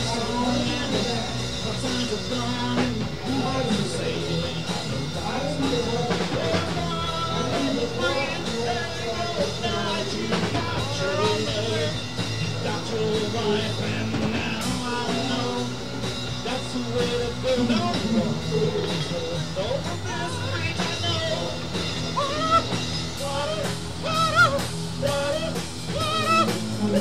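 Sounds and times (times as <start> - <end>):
rock song with singing: 0.0 - 27.0.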